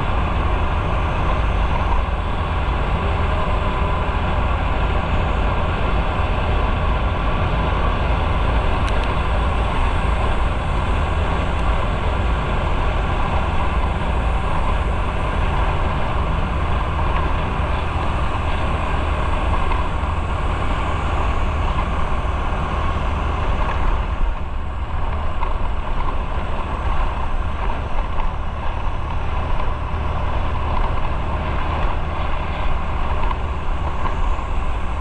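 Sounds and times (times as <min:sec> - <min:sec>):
motorcycle engine rumble: 0:00.0 - 0:35.0
wind rush over microphone: 0:00.0 - 0:35.0.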